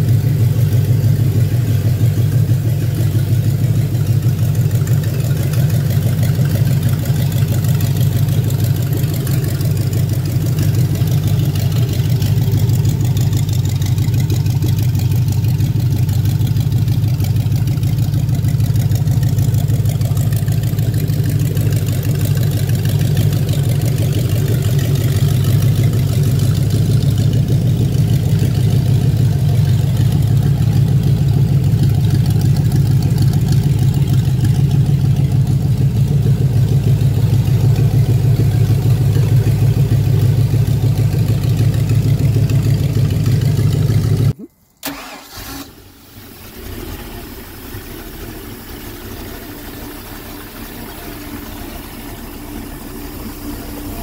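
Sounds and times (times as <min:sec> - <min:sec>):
loud engine running: 0:00.0 - 0:45.4, 0:46.4 - 0:54.0
quieter engine running: 0:00.0 - 0:54.0.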